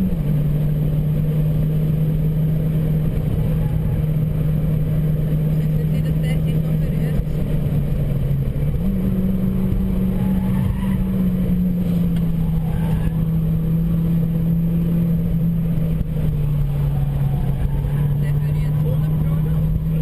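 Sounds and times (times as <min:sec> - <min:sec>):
car engine droning under load: 0:00.0 - 0:20.0.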